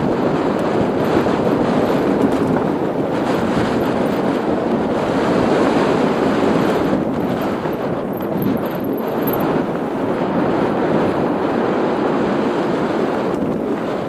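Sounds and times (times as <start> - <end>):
bike tyres on gravel: 0.0 - 14.0
wind buffeting microphone: 0.0 - 14.0.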